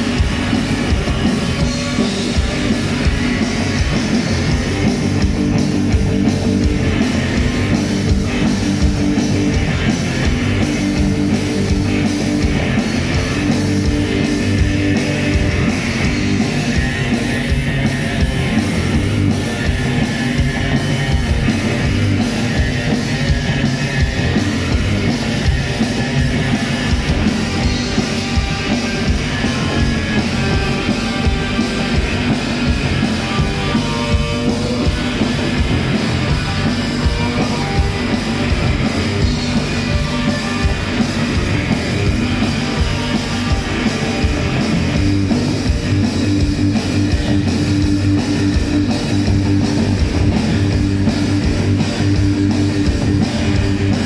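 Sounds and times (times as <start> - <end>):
bass guitar: 0.0 - 54.0
drum kit: 0.0 - 54.0
electric guitar: 0.0 - 54.0.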